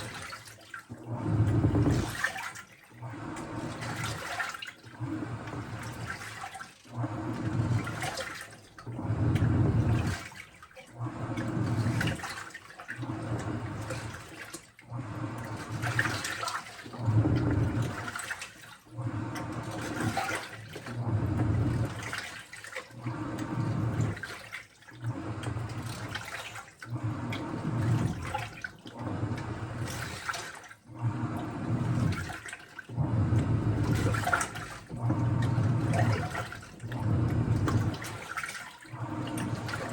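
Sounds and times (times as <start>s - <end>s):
washing machine water sloshing: 0.0s - 39.9s.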